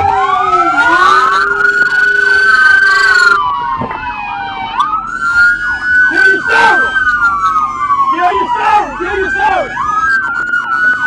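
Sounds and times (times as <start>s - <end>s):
siren fast yelps: 0.0s - 3.5s, 4.5s - 11.0s
police sirens wailing: 0.0s - 11.0s.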